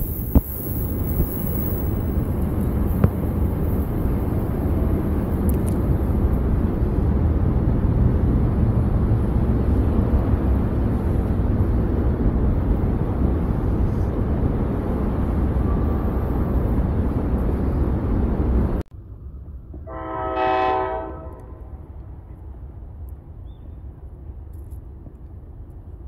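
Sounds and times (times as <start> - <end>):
distant train rumble: 0.0 - 26.0.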